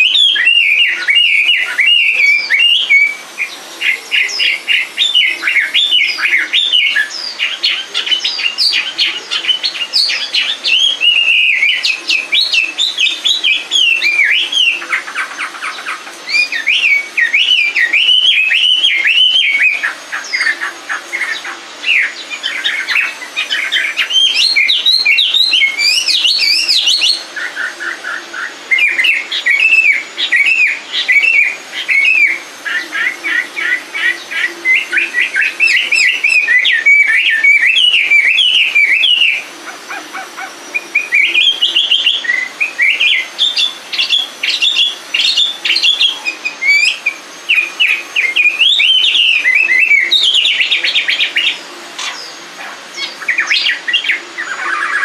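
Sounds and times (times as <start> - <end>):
bird singing whistled trills: 0.0 - 55.0.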